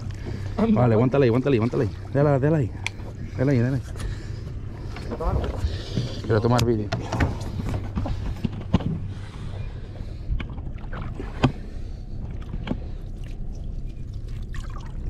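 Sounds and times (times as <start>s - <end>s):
boat engine idling: 0.0s - 15.0s
water sloshing: 0.0s - 15.0s.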